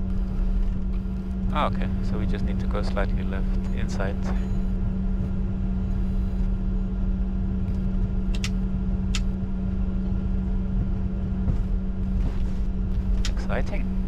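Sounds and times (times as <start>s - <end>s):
idling jet engine rumble: 0.0s - 14.0s.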